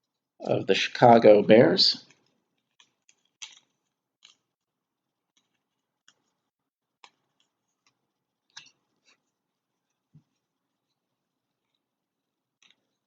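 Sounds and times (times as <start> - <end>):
trading cards being handled: 1.0 - 11.9.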